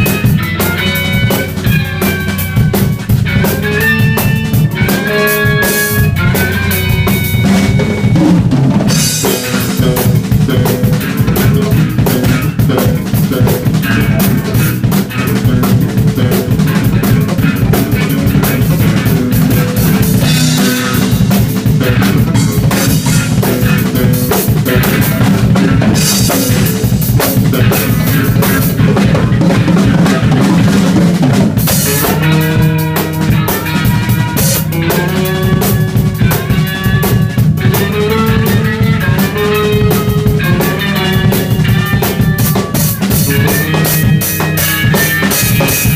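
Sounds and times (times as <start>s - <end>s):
drum kit beating: 0.0s - 45.9s
guitar: 0.0s - 45.9s
melody with bending notes: 0.0s - 45.9s.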